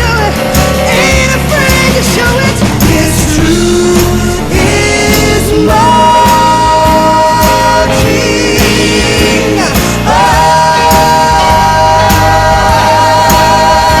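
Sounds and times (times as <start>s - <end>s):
person singing with vibrato: 0.0s - 14.0s
steady drum beat: 0.0s - 14.0s.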